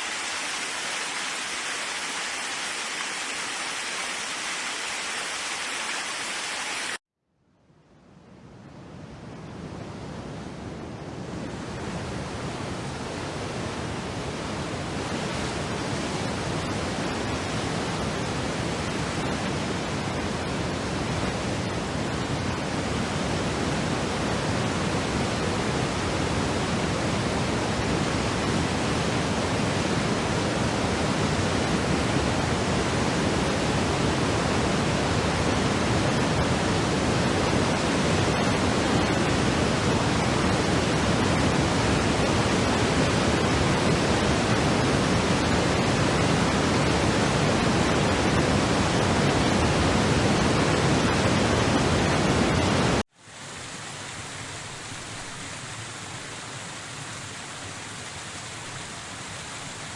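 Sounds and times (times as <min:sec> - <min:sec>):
waterfall rushing: 0:00.0 - 0:07.0, 0:12.0 - 0:59.9.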